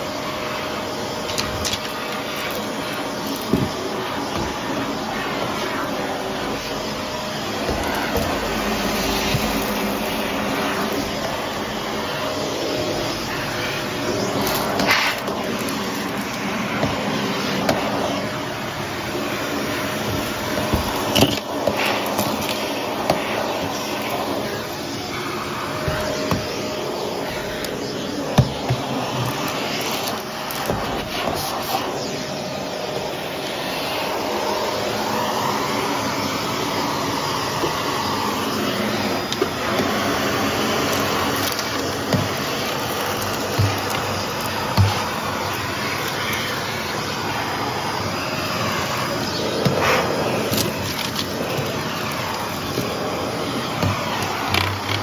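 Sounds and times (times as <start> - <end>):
stick vacuum running on carpet: 0.0 - 55.0.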